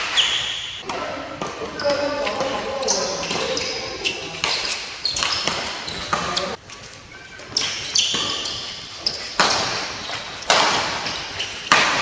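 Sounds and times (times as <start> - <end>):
rackets hitting shuttlecock: 0.0 - 6.8, 7.4 - 12.0.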